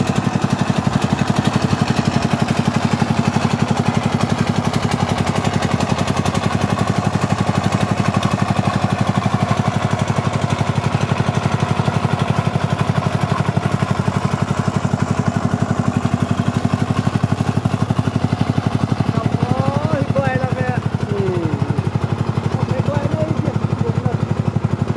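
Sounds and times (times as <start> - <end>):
diesel engine chugging: 0.0 - 24.9.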